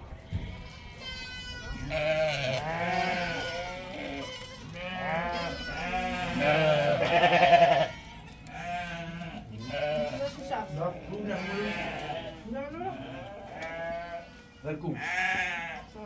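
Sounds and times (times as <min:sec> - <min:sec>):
sheep bleating: 0:00.3 - 0:16.0.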